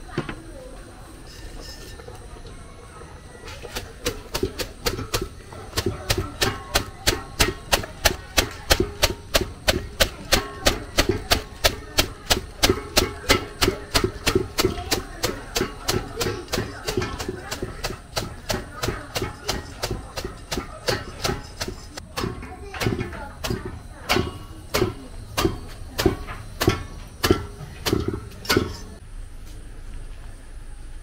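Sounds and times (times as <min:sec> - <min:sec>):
broom beating leaves in pot: 0:03.3 - 0:29.6.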